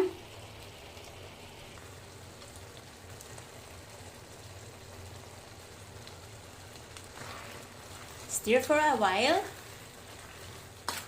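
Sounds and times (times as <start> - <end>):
sauce simmering and bubbling: 0.0 - 11.0.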